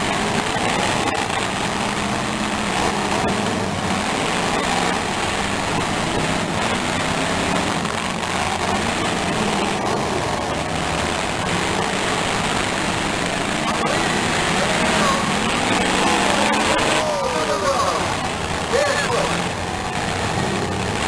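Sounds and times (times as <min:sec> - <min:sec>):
car engines droning: 0:00.0 - 0:21.0.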